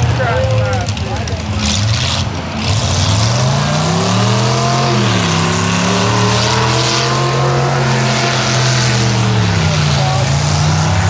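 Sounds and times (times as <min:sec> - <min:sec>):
truck engine revving under load: 0:00.0 - 0:11.0.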